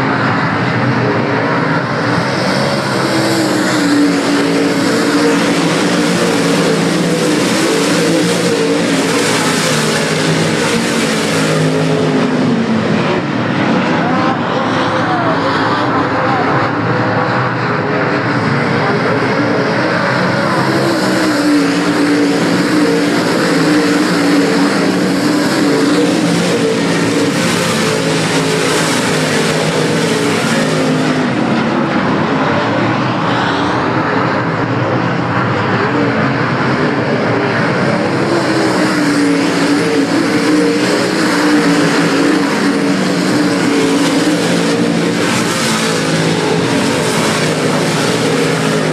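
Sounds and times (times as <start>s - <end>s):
race car engines roaring: 0.0s - 48.9s.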